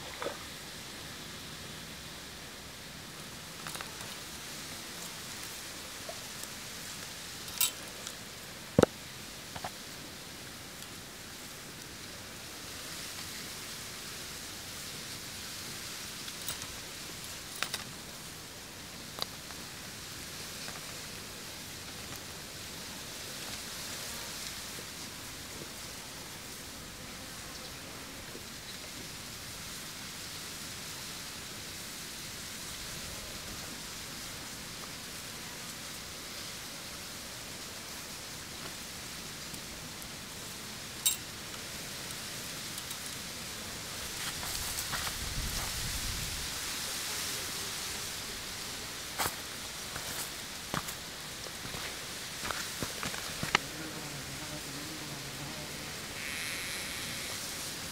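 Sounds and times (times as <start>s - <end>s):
outdoor background hiss: 0.0s - 57.9s.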